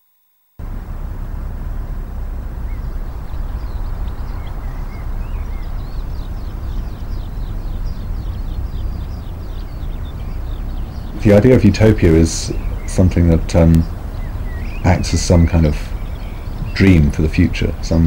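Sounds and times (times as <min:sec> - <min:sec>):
small birds chirping: 0:00.6 - 0:18.0
wind on microphone: 0:00.6 - 0:18.0.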